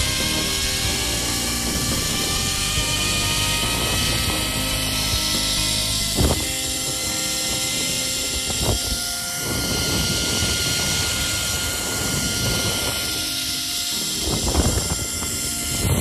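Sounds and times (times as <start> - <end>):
wind buffeting microphone: 0.0 - 16.0
zipline trolley whirring: 0.0 - 16.0.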